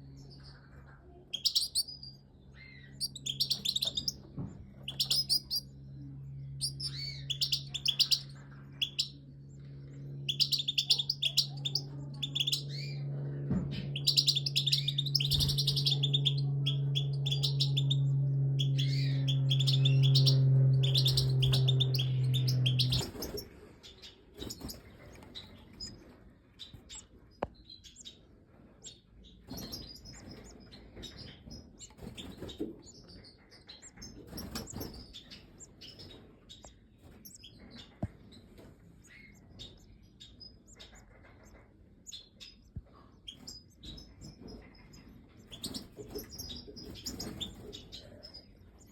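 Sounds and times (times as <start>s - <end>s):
birds chirping in bursts: 0.0s - 48.9s
steady low hum: 0.0s - 48.9s.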